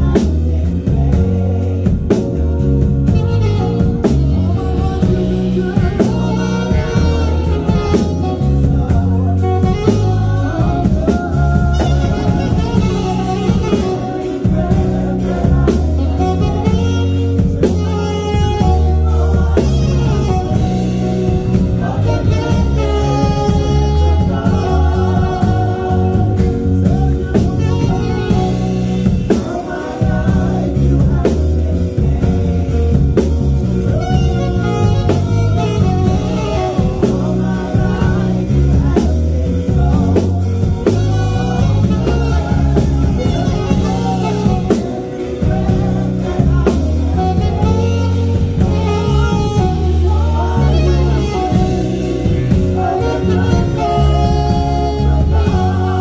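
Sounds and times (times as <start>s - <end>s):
drum kit: 0.0s - 56.0s
electric bass guitar line: 0.0s - 56.0s
person singing: 0.0s - 56.0s.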